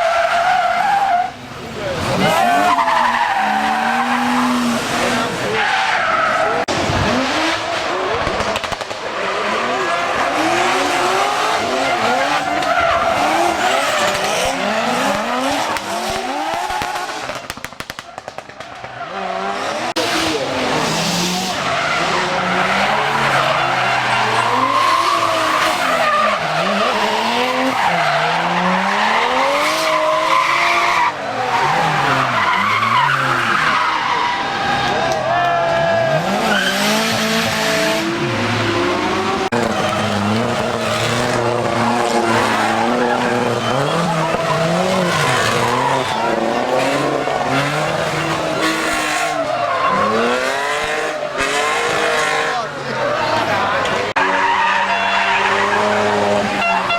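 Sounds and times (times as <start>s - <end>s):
car engines revving hard: 0.0s - 56.9s
tyres skidding and squealing: 0.0s - 56.9s.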